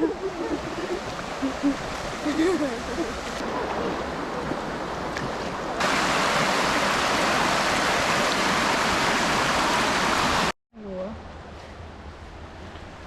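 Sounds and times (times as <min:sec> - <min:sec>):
waterfall roaring: 0:00.0 - 0:10.5.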